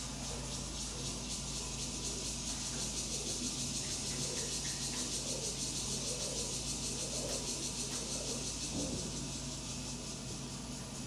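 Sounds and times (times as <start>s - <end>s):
high-pitched fluttering hiss: 0.0s - 11.0s.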